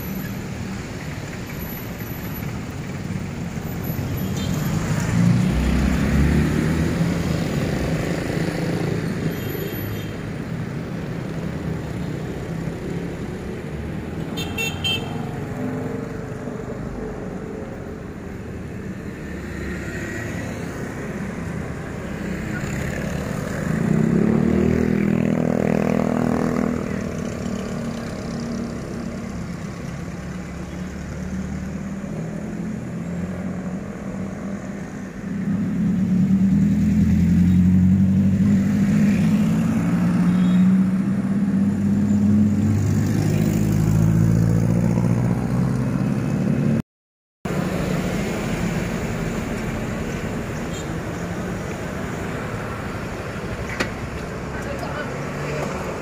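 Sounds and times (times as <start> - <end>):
cars driving past: 0.0 - 46.8, 47.5 - 56.0.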